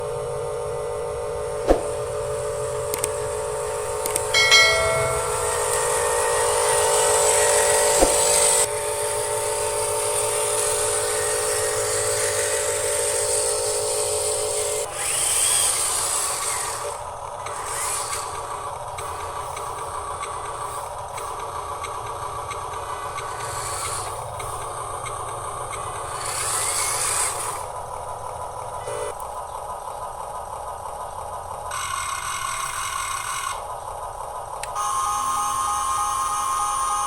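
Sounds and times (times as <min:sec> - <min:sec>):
electric motor and gear whine: 0:00.0 - 0:29.8, 0:30.4 - 0:37.0.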